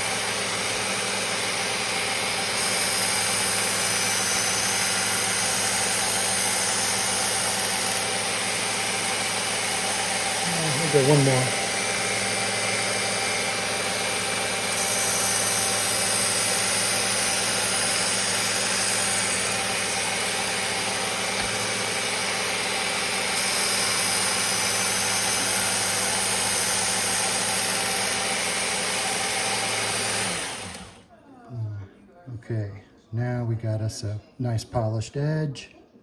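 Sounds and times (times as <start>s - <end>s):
belt grinder motor hum: 0.0s - 31.1s.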